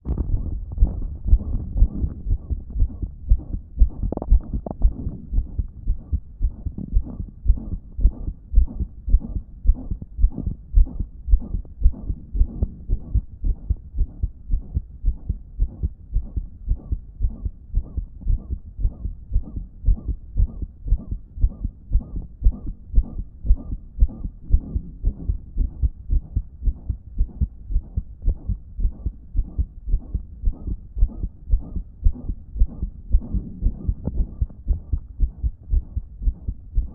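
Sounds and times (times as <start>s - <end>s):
heartbeat: 0.0s - 36.9s
whooshing heart murmur: 0.0s - 36.9s.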